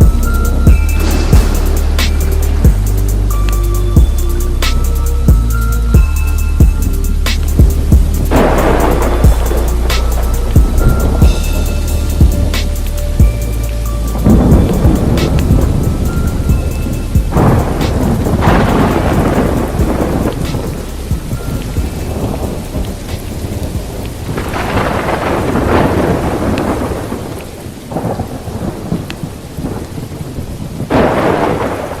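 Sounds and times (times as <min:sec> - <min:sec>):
rolling thunder: 0:00.0 - 0:32.0
steady rain: 0:00.0 - 0:32.0.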